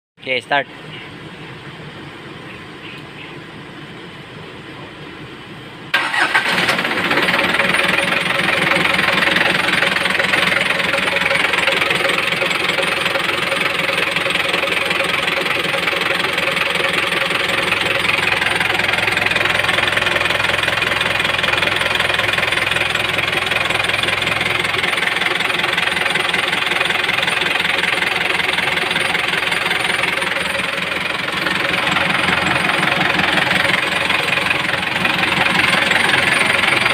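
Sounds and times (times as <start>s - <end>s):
diesel engine starting and idling: 0.3s - 36.9s.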